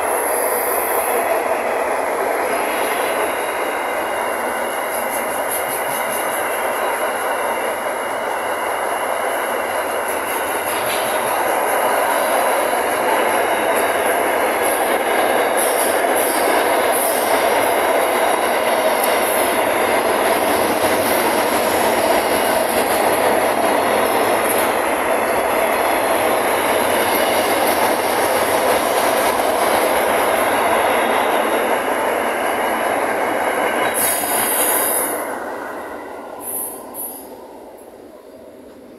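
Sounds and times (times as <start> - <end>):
train wheels roaring on rail: 0.0 - 38.9.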